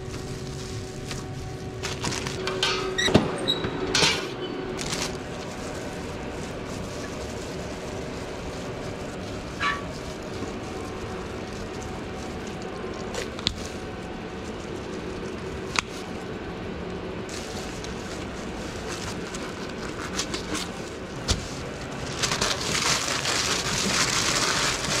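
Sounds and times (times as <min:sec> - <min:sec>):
wrapping paper crinkling: 0:00.0 - 0:02.7, 0:04.7 - 0:16.4, 0:17.3 - 0:25.0
gloved hands handling sandwich: 0:00.0 - 0:03.7, 0:04.7 - 0:16.5, 0:17.3 - 0:25.0
steady background hum: 0:00.0 - 0:25.0.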